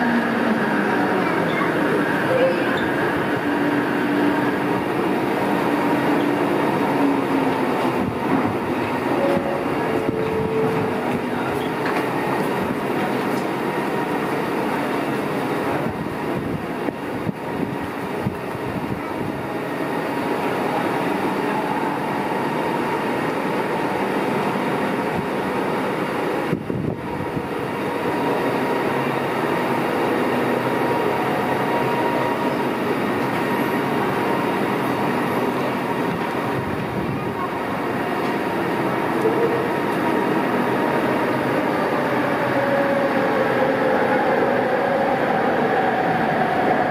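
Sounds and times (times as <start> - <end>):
low whine of braking train: 0.0 - 46.9
train rumble and hum: 0.0 - 46.9.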